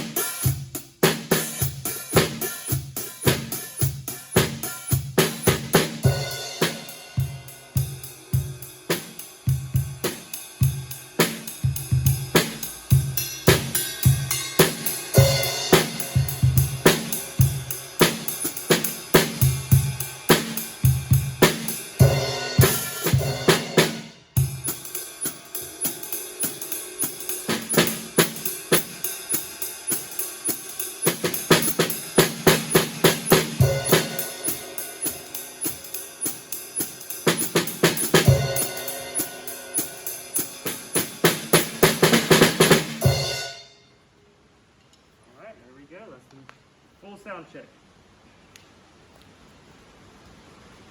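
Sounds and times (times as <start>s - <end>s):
drum set groove: 0.0s - 43.7s.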